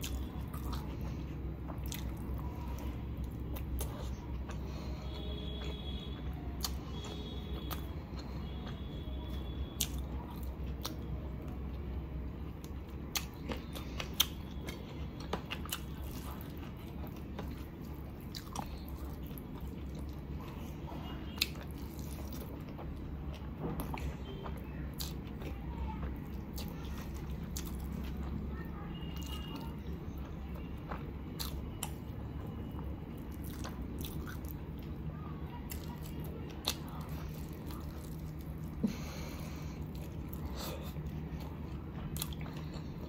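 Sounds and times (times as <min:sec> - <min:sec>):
chewing and lip-smacking: 0:00.0 - 0:43.0.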